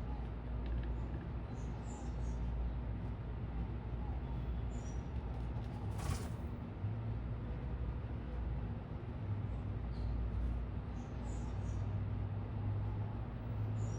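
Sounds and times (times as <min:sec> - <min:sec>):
city traffic rumble: 0:00.0 - 0:13.9.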